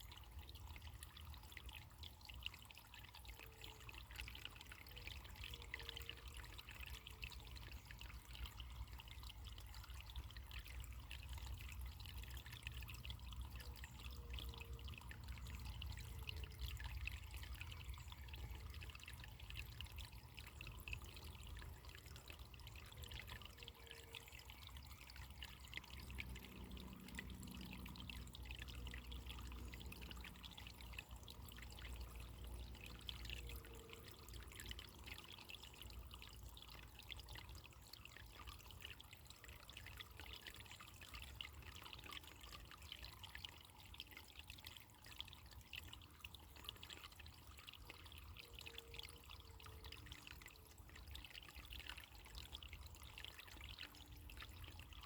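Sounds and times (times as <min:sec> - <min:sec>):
water dripping: 0:00.0 - 0:55.0
water trickling and splashing: 0:00.0 - 0:55.0.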